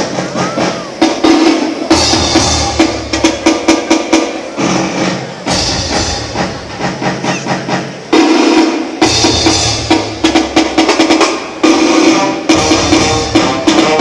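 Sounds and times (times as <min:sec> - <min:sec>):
christmas carol music with drums: 0:00.0 - 0:14.0.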